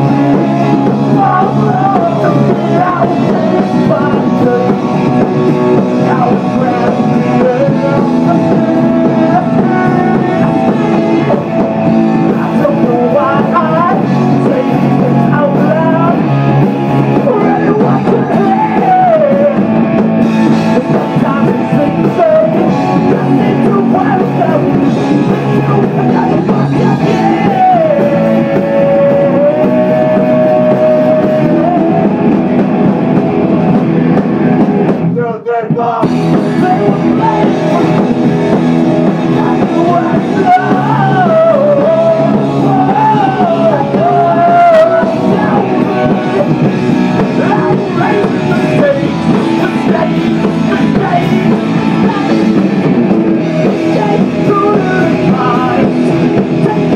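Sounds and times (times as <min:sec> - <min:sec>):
electric guitar: 0:00.0 - 0:56.9
person singing: 0:00.0 - 0:56.9.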